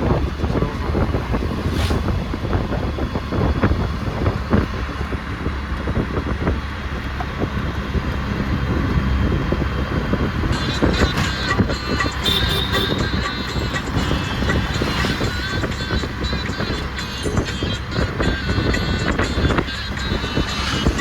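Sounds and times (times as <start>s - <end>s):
vehicle low rumble: 0.0s - 21.0s
wind buffeting microphone: 0.0s - 21.0s.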